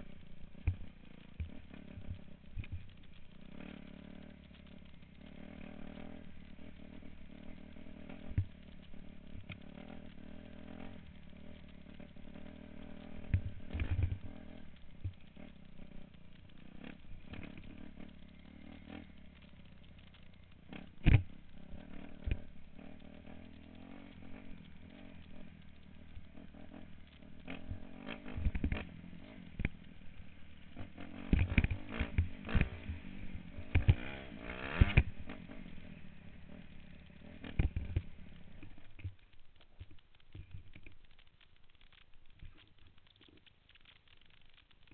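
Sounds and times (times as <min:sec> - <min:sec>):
dirt bike engine running: 0:00.0 - 0:44.9
knocks and rattles over rocks: 0:00.1 - 0:44.9.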